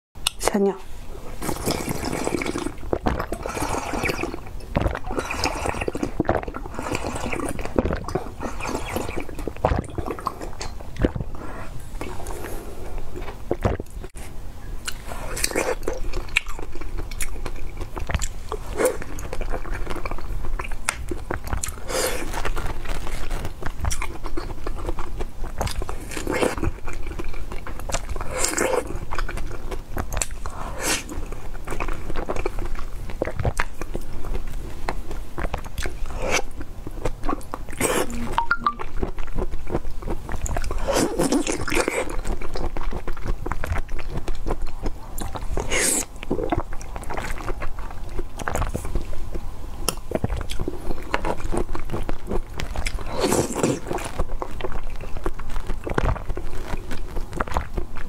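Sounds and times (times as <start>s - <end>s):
person biting and chewing food: 1.4s - 49.1s, 49.9s - 58.0s.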